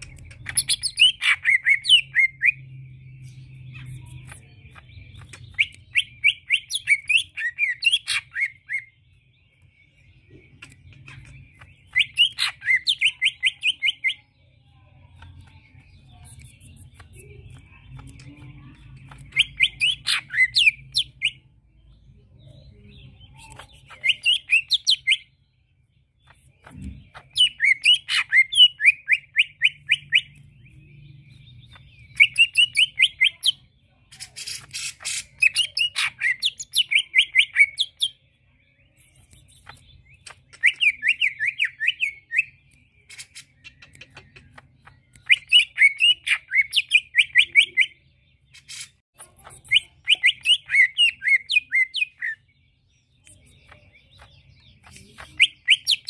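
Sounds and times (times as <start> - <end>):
bird singing rapid chirps: 0.0 - 56.0.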